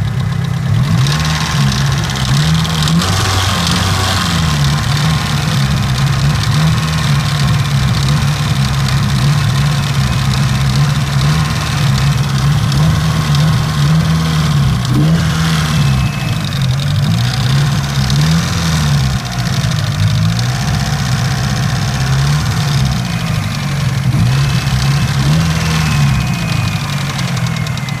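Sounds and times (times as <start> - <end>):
car engine idling: 0.0 - 28.0
repetitive engine ticking: 0.0 - 28.0.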